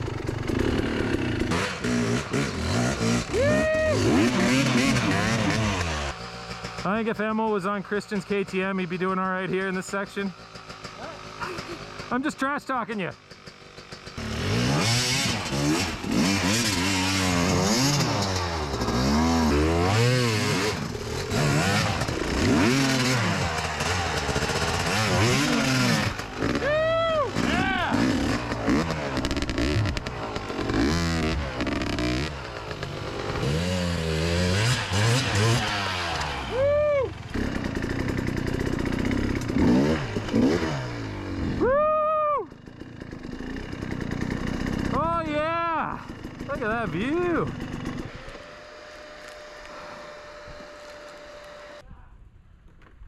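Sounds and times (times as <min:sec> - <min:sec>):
dirt bike engine revving: 0:00.0 - 0:41.9, 0:42.5 - 0:51.8.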